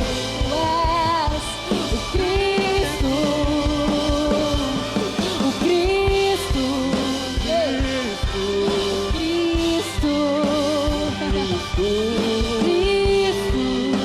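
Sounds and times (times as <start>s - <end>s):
low bass: 0.0s - 14.0s
person singing long held notes: 0.0s - 14.0s.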